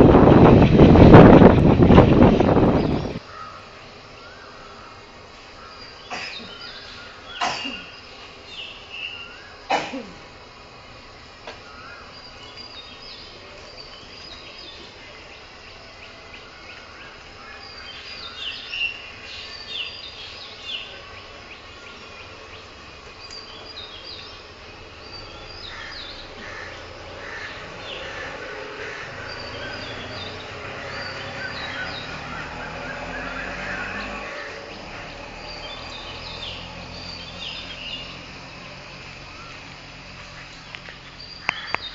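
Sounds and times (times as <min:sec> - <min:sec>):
birds chirping: 0:00.0 - 0:41.9
steady background hiss: 0:00.0 - 0:41.9.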